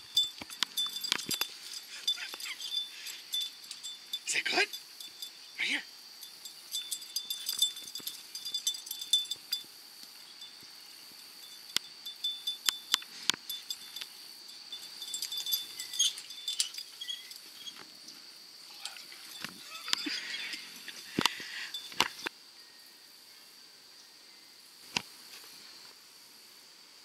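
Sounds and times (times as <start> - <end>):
leaf rustling: 0.0 - 22.3
insect chirring: 0.0 - 27.0.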